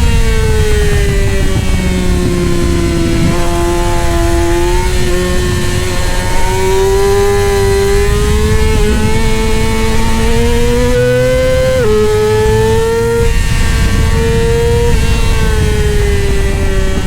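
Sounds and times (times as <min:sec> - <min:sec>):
constant low rumble: 0:00.0 - 0:17.0
motorcycle engine at high revs: 0:00.0 - 0:17.0.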